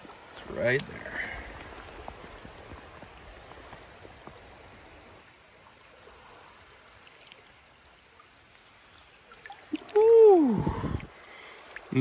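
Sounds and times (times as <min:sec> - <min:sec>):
shallow water splashing and trickling: 0:00.0 - 0:12.0.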